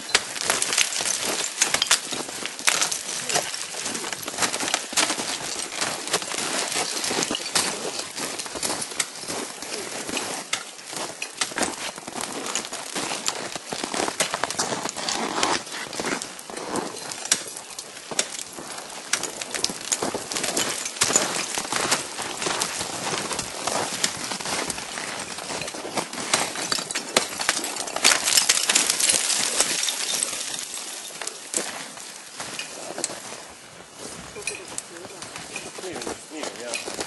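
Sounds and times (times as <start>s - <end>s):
ice chips clattering: 0.0s - 15.1s, 16.1s - 32.8s.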